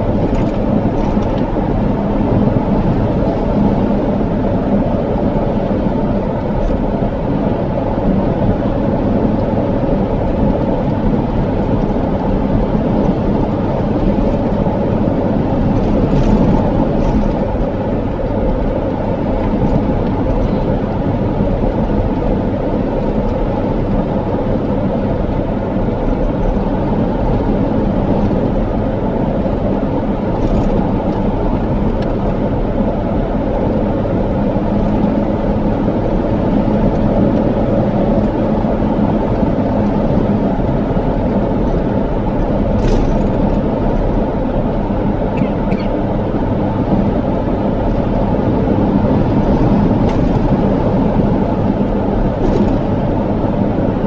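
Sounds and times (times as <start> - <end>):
car engine low hum: 0.0 - 54.0
tyre roar on pavement: 0.0 - 54.0.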